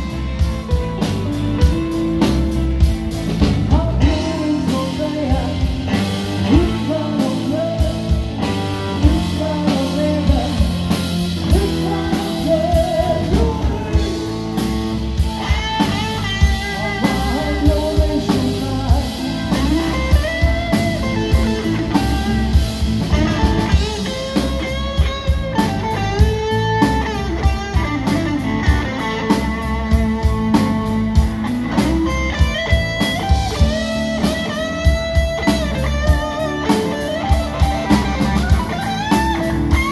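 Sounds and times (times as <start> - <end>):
blues-rock band playing: 0.0 - 39.9
lead electric guitar bent notes: 0.0 - 39.9.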